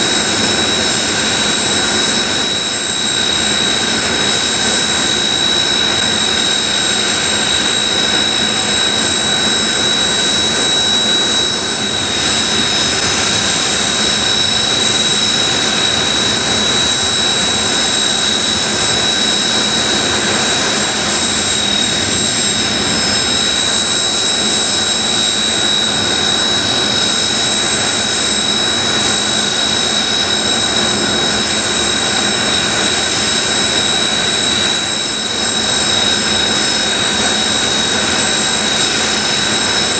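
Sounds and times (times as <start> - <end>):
jet engines idling with whine: 0.0 - 39.9.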